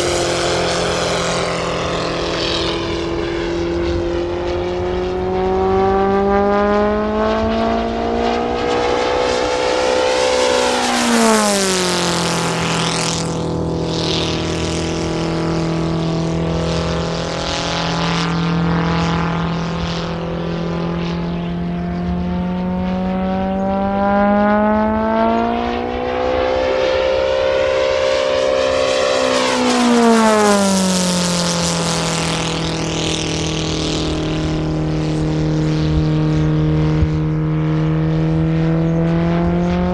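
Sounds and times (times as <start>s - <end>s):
model aircraft engine at high power: 0.0s - 39.9s.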